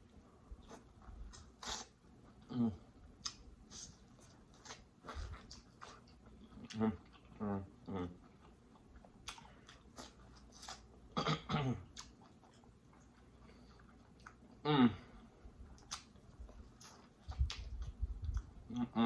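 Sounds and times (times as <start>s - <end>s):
chewing: 0.6s - 11.0s, 11.8s - 14.6s, 15.6s - 19.0s.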